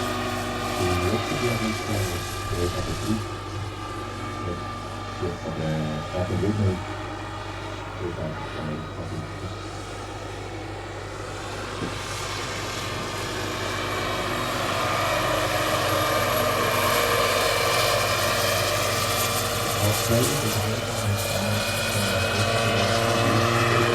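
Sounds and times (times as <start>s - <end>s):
model helicopter turbine whine: 0.0s - 23.9s.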